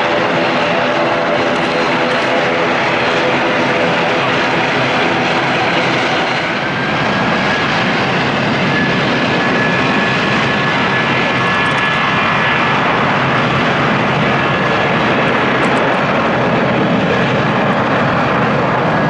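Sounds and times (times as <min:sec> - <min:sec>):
high engine whine: 0:00.0 - 0:19.0
jet airliner engines running: 0:00.0 - 0:19.0.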